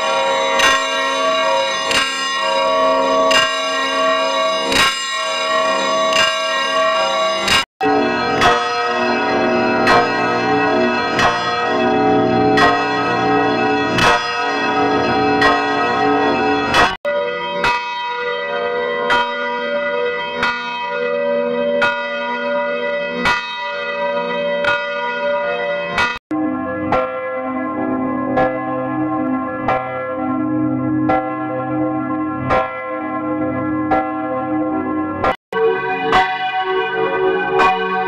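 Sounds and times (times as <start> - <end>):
church bell tolling: 0.0 - 38.0.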